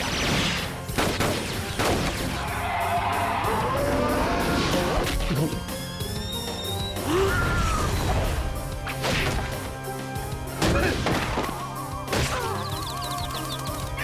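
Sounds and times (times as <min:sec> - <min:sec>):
action music: 0:00.0 - 0:14.0.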